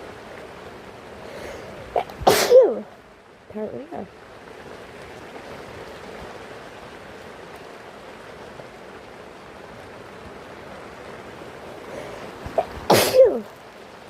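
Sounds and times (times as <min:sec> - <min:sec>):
rain falling on a tent: 0:00.0 - 0:14.0.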